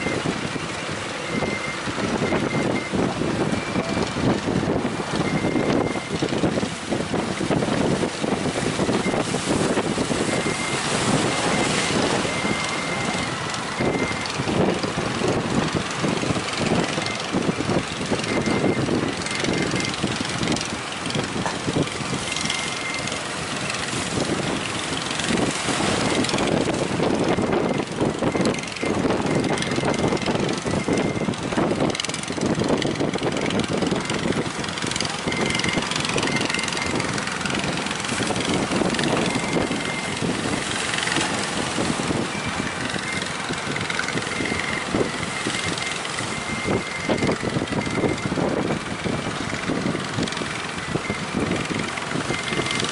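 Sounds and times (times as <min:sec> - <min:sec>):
gusty wind on microphone: 0:00.0 - 0:52.9.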